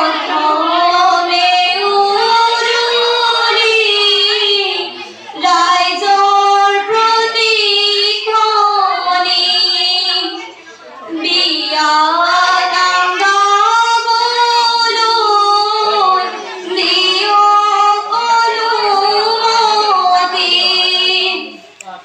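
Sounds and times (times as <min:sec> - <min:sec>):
girls singing: 0:00.0 - 0:22.0.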